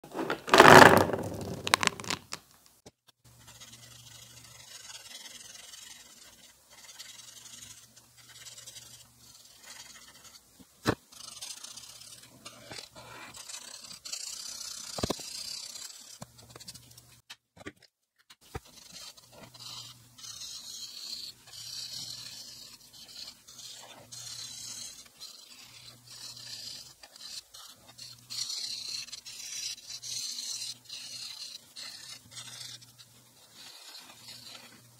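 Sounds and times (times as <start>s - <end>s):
marker scratching on paper: 3.4s - 16.9s, 18.6s - 34.9s.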